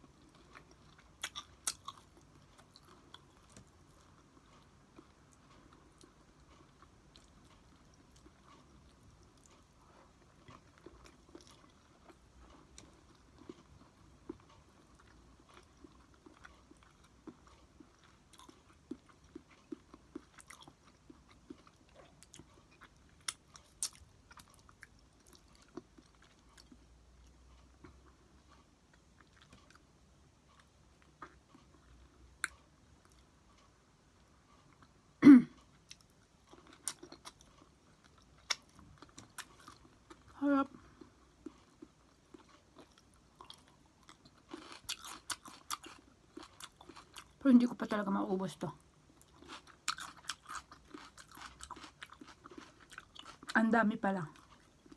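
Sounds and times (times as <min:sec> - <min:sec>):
person chewing food: 0:00.0 - 0:47.4, 0:48.8 - 0:54.9.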